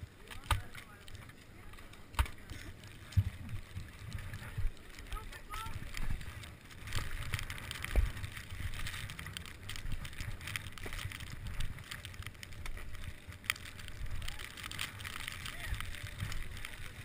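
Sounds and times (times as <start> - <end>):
skis scraping over snow: 0.0 - 17.0.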